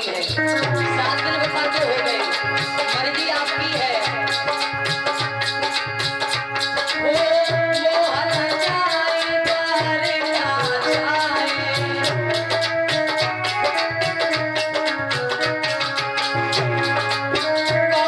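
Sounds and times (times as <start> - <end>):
hand drums beat: 0.0 - 18.0.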